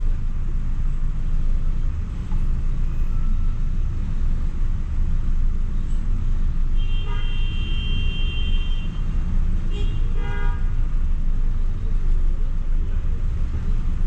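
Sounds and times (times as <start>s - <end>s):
traffic jam engines idling: 0.0s - 14.0s.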